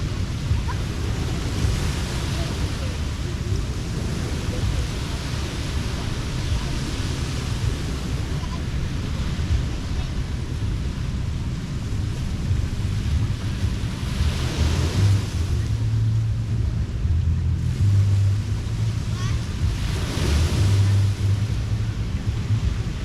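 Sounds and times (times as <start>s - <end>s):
ocean surf washing onto beach: 0.0s - 23.0s
wind rumble on microphone: 0.0s - 23.0s.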